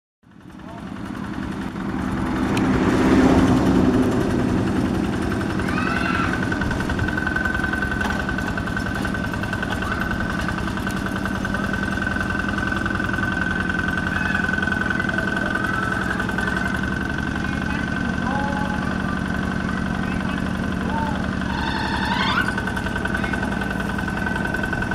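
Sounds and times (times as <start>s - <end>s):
diesel engine chugging: 0.2s - 24.9s.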